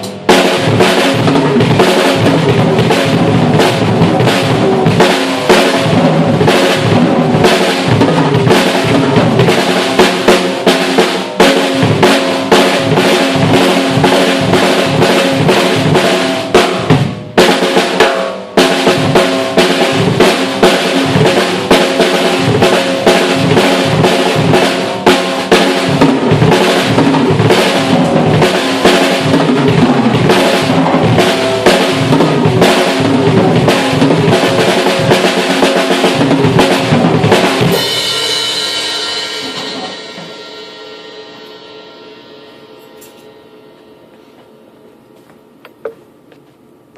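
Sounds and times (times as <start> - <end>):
rapid double bass drum: 0.0 - 40.5
snare drum: 0.0 - 40.6
cymbals: 0.0 - 45.6.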